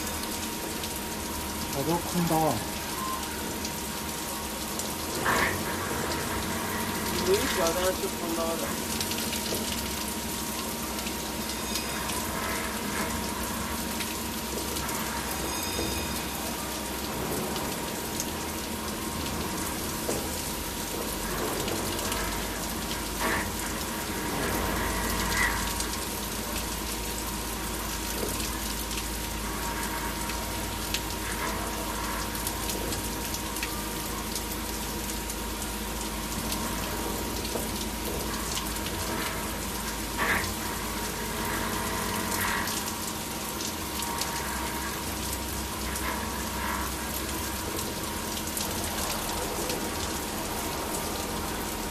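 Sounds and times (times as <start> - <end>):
coolant spraying and splashing: 0.0 - 51.9.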